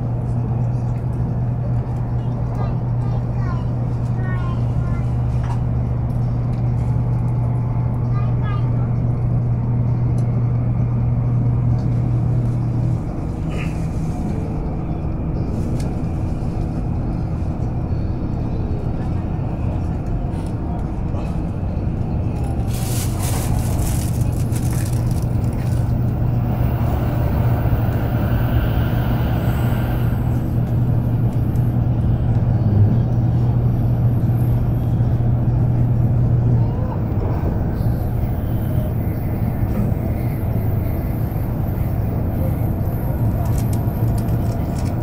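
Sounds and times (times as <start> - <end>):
train wheels rumbling on rails: 0.0 - 45.0
low hum: 5.0 - 45.0.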